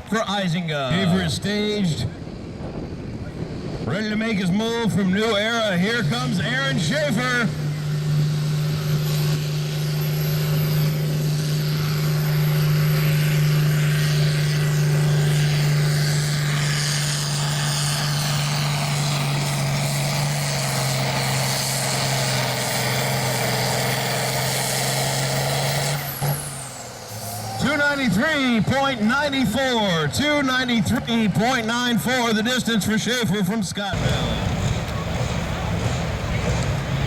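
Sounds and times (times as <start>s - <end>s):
tractor engine running at full power: 1.2s - 37.0s.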